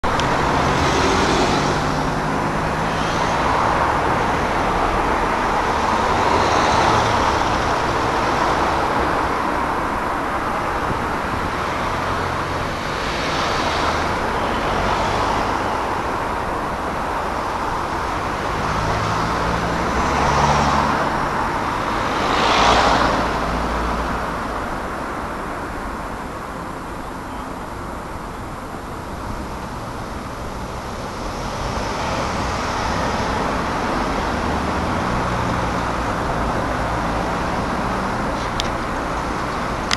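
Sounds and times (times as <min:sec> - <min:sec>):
vehicles passing in road traffic: 0:00.0 - 0:39.9.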